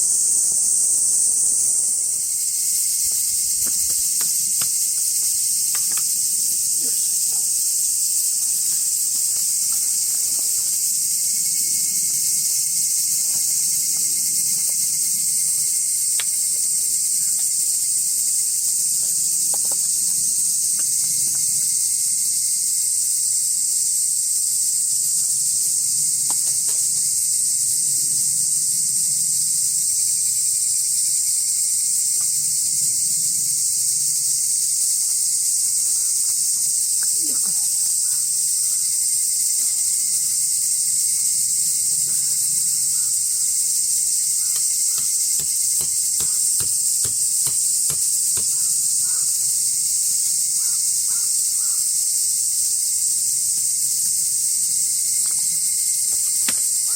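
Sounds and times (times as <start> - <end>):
insect chorus hiss: 0.0 - 56.9.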